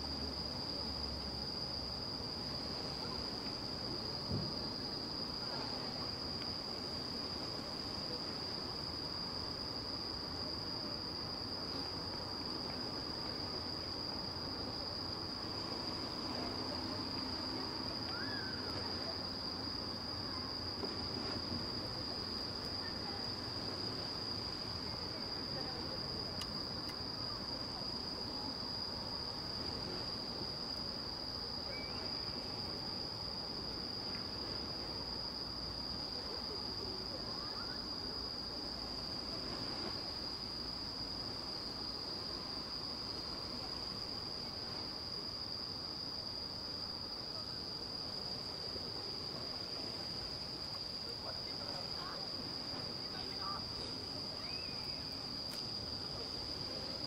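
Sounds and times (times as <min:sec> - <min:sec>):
night insects singing: 0:00.0 - 0:57.0.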